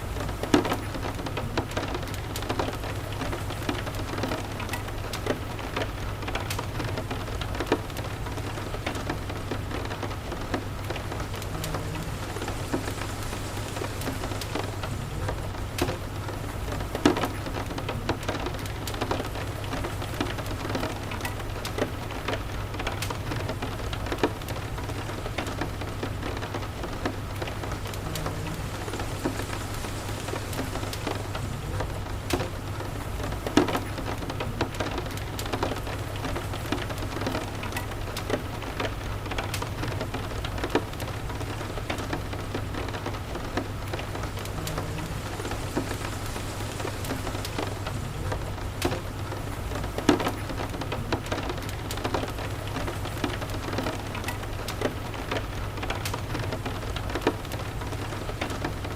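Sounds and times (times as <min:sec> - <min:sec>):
low continuous rumble: 0:00.0 - 0:58.9
steady rain: 0:00.0 - 0:58.9.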